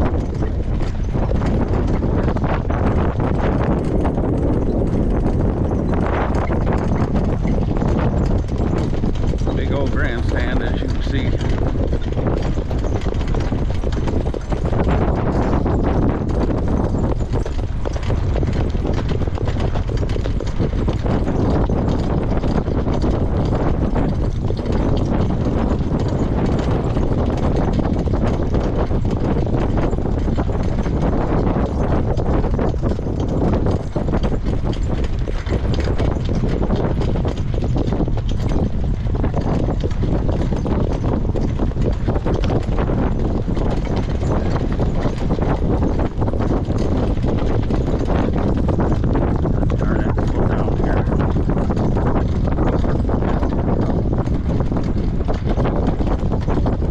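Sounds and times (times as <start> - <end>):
horse hoofbeats on dirt: 0.0 - 56.9
wind on microphone: 0.0 - 56.9.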